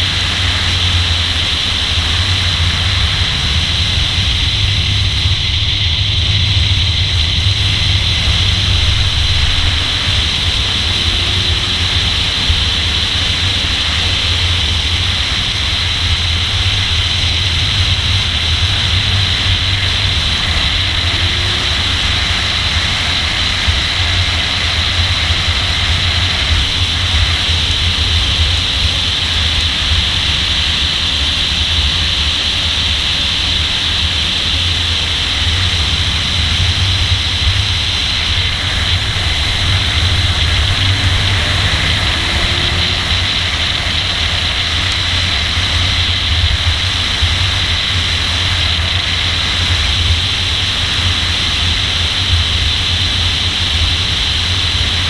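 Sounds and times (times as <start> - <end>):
muffled car engine rumble: 0.0 - 55.0
wind noise: 0.0 - 55.0.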